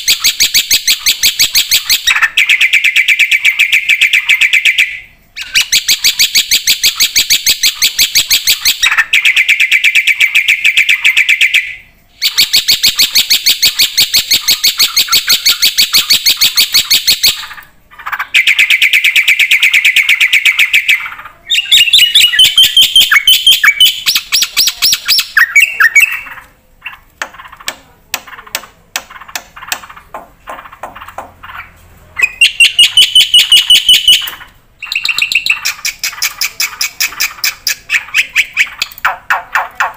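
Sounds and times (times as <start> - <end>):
sharp bird calls: 0.0 - 39.9
bird whistled phrases: 0.1 - 17.6, 18.4 - 26.4, 32.2 - 39.7.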